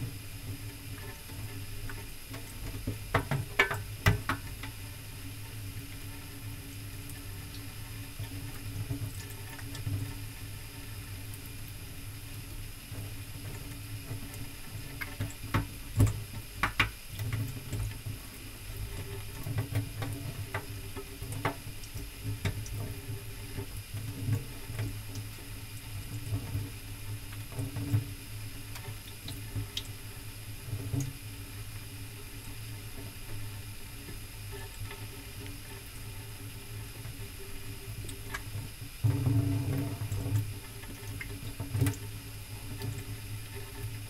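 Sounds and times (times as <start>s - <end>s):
tap water running into sink: 0.0s - 44.0s.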